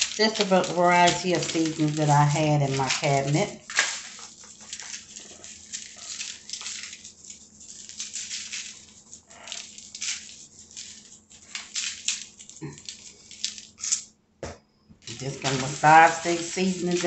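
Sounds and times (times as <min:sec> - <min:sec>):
granules hissing out of shaker: 0:00.0 - 0:14.1, 0:15.1 - 0:17.0
spice jar rattling shakes: 0:00.0 - 0:14.1, 0:15.1 - 0:17.0.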